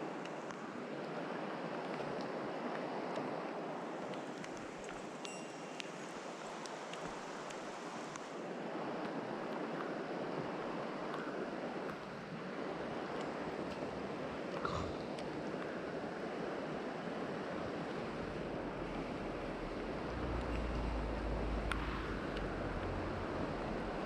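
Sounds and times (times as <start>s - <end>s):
stream water flowing: 0.0s - 24.0s.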